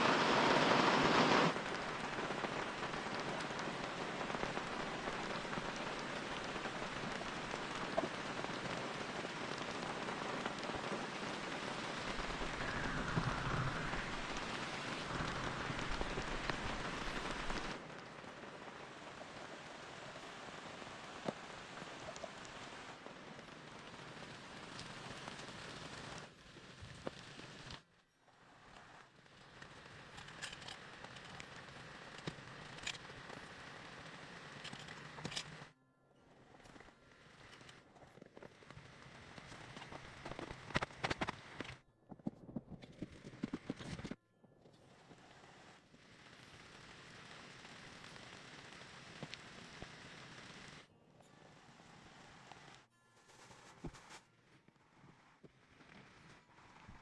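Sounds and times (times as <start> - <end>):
steady rain falling: 0.0 - 35.8, 36.4 - 41.8, 42.9 - 44.2, 44.8 - 52.9.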